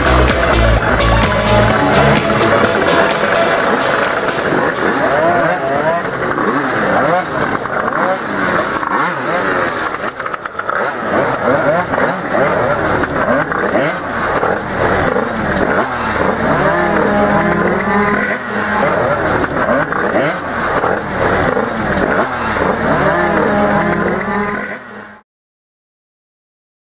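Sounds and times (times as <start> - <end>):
racing scooters revving: 0.0 - 25.2.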